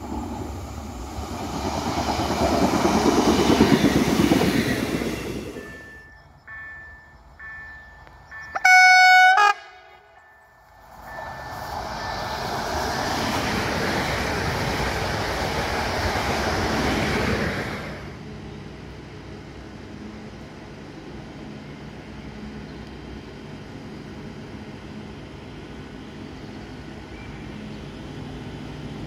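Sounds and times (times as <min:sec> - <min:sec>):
electric train passing at speed: 0:00.0 - 0:29.0.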